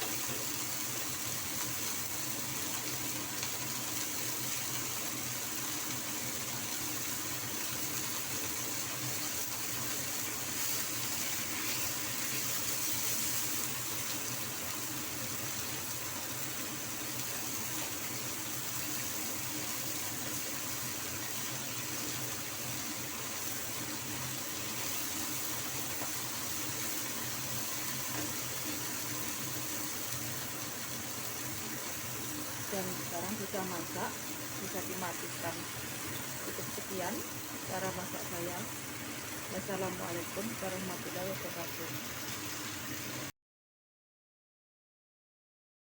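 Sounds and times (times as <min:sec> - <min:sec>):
food hissing in a pan: 0:00.0 - 0:43.3.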